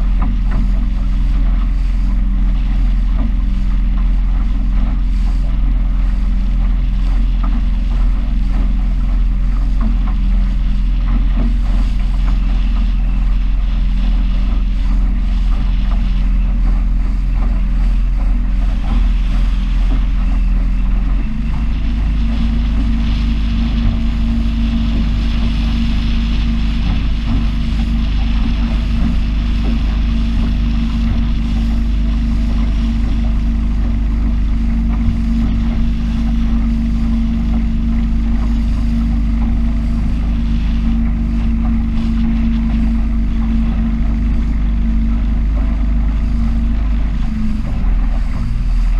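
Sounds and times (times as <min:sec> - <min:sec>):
powerboat engine running: 0:00.0 - 0:48.9
water rushing past hull: 0:00.0 - 0:48.9
wind buffeting microphone: 0:00.0 - 0:48.9.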